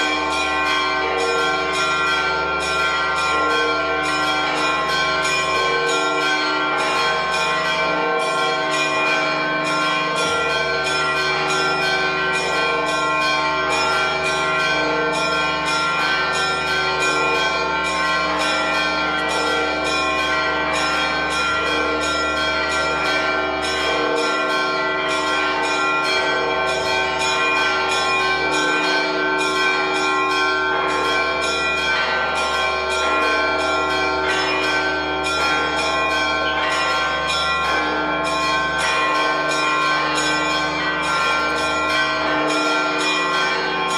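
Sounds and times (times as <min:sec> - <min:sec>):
church bells pealing: 0:00.0 - 0:43.9.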